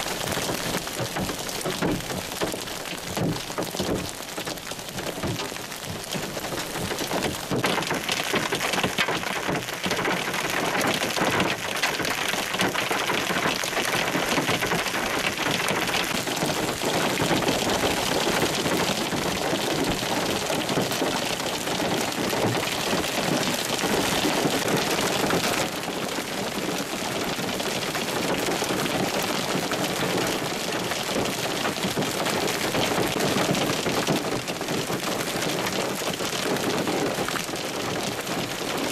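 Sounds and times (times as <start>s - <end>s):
hail and heavy rain pelting ground: 0.0s - 38.9s.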